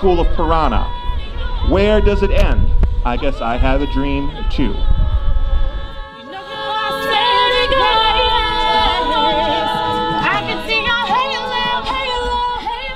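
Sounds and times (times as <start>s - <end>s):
a cappella group singing: 0.0s - 12.9s.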